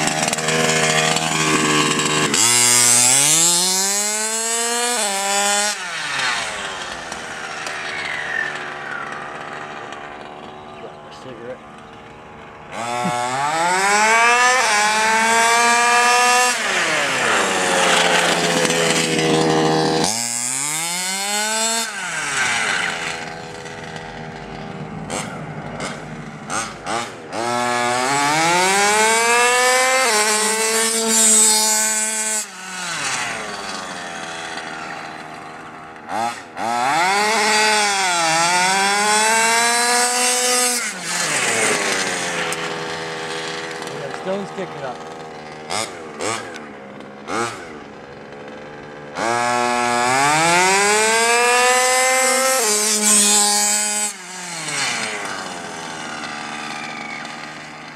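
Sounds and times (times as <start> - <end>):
rc car engine revving: 0.0 - 57.9.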